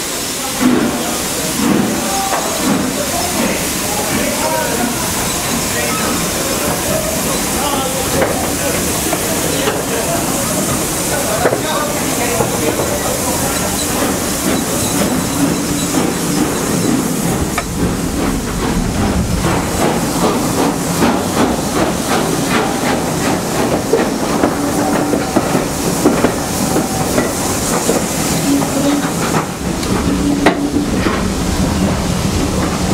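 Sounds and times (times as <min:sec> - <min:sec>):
rhythmic beats of locomotive: 0:00.0 - 0:32.9
steam locomotive hissing: 0:00.0 - 0:32.9.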